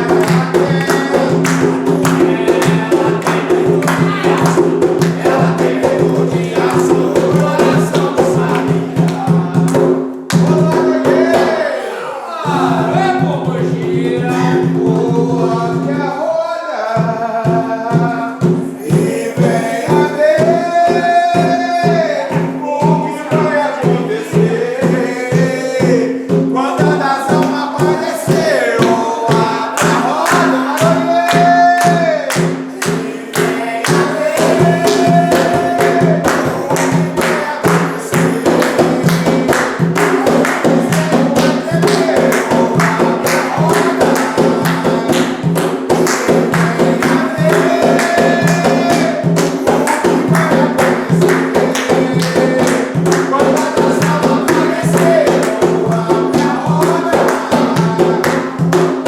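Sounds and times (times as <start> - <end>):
tambourine-like percussion: 0.0 - 11.6, 17.0 - 59.0
hand drums: 0.0 - 11.7, 12.4 - 16.1, 16.9 - 59.0
group chanting: 0.0 - 59.0.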